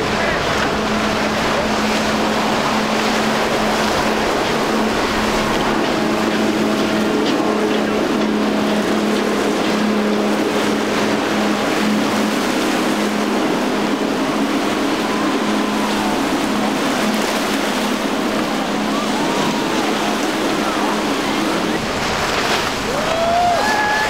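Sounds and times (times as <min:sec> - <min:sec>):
outboard engines droning: 0:00.0 - 0:24.0
rush of spray: 0:00.0 - 0:24.0.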